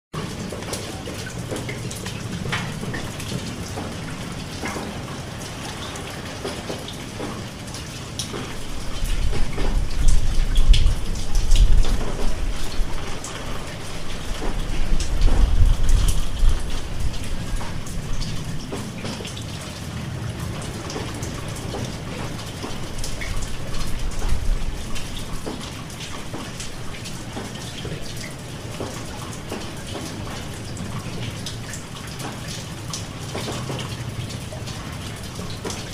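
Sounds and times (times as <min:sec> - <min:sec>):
rain falling: 0:00.2 - 0:35.9.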